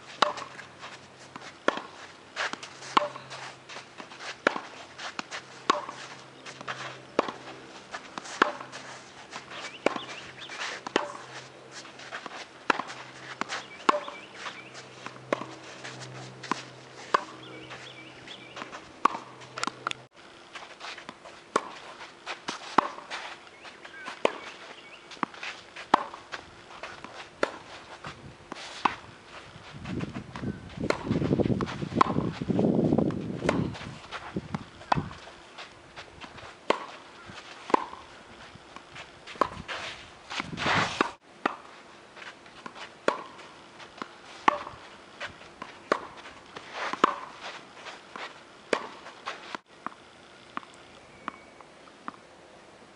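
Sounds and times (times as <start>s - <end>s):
shoes scuffing on court: 0.0s - 50.0s
tennis balls popping off rackets: 0.0s - 52.2s.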